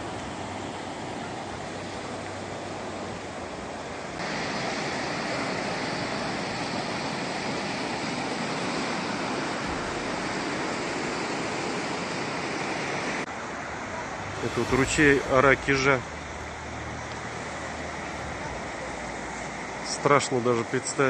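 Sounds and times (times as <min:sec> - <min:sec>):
floodwater rushing: 0:00.0 - 0:20.4.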